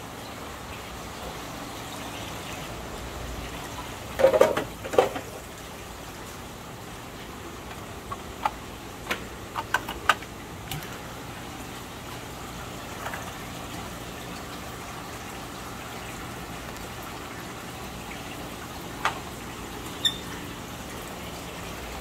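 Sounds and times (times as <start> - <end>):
water bubbling and trickling: 0.0 - 22.0.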